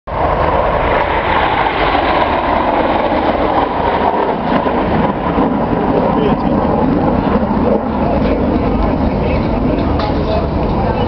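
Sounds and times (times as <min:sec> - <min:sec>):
jets flying overhead: 0:00.1 - 0:11.0.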